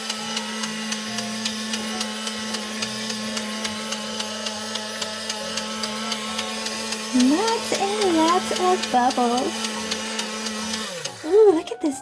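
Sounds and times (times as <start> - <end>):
regular clicking: 0.0 - 11.3
toy motor humming: 0.0 - 12.0.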